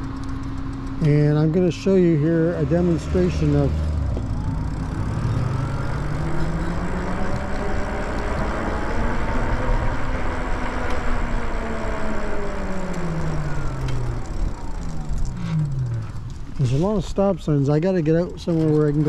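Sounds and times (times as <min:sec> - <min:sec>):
electric bike motor whining: 0:00.0 - 0:17.4
wind and road noise: 0:00.0 - 0:19.0.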